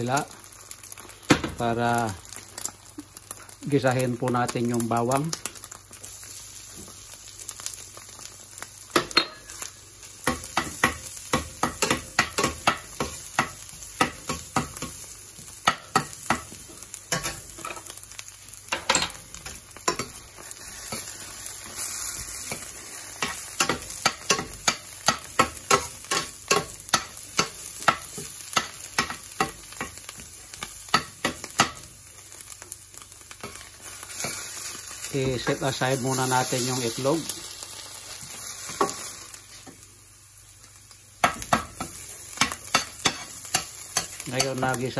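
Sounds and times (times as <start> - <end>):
garlic sizzling in hot oil: 0.0 - 44.9.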